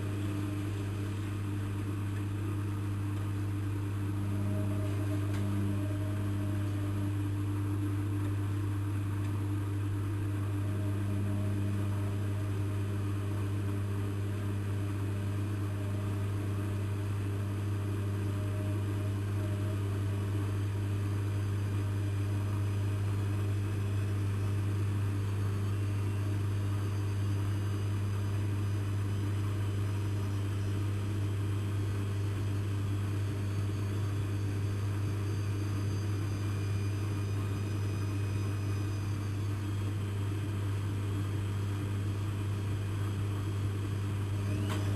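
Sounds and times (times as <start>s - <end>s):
washing machine humming: 0.0s - 44.9s.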